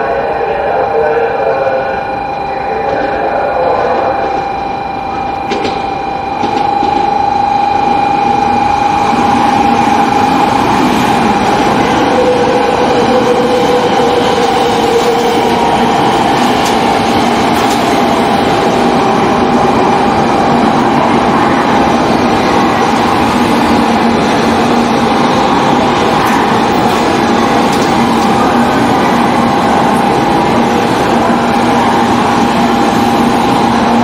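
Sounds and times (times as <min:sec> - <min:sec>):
train whine and rumble on track: 0:00.0 - 0:34.0.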